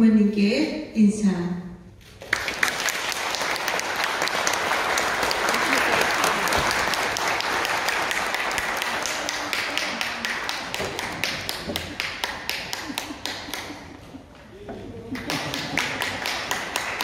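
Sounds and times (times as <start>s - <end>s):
applause: 2.1s - 14.1s, 15.1s - 17.0s.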